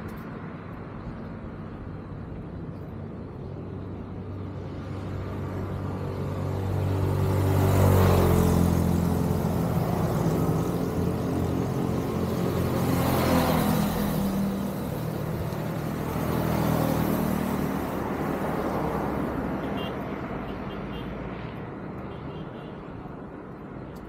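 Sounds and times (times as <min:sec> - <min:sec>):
road vehicles passing: 0:00.0 - 0:24.0.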